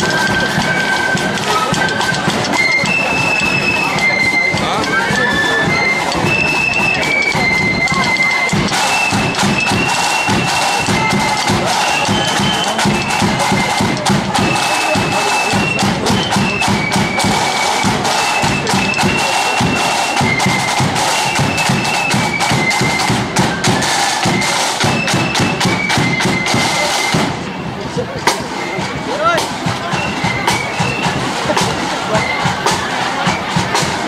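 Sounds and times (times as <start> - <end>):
high flute melody: 0.0 - 34.0
rapid snare drumming: 0.0 - 34.0.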